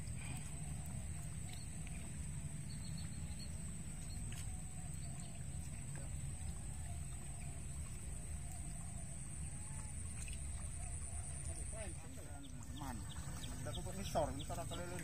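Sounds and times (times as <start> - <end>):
distant wavering animal calls: 0.0 - 14.9
low steady rumble: 0.0 - 15.0.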